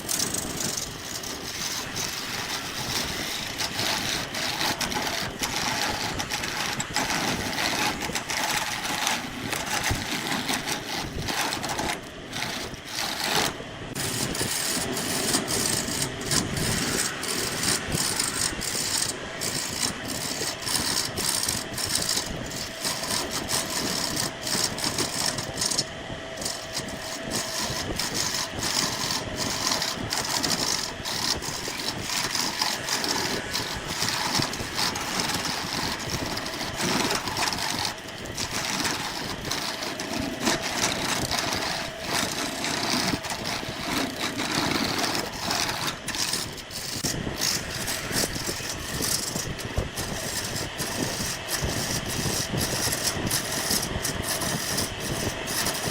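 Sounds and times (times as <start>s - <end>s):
machine running with rattle: 0.0s - 55.9s.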